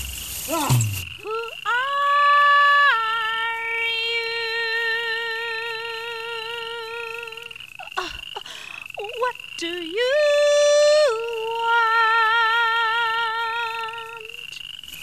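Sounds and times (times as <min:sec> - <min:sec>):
woman singing with vibrato: 0:00.5 - 0:14.6.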